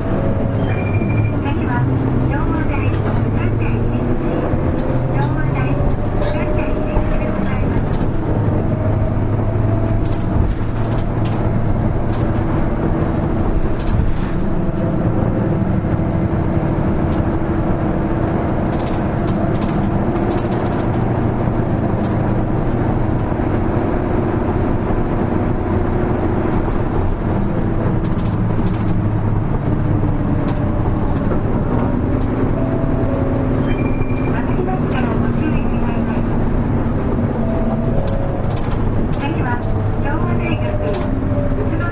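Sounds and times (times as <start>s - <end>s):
bus engine drone: 0.0s - 41.9s
road noise: 0.0s - 41.9s.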